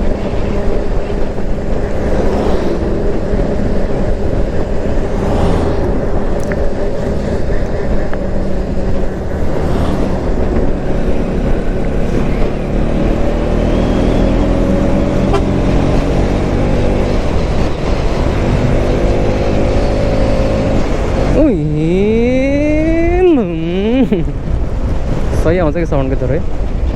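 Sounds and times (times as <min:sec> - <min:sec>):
wind and road noise: 0:00.0 - 0:26.9.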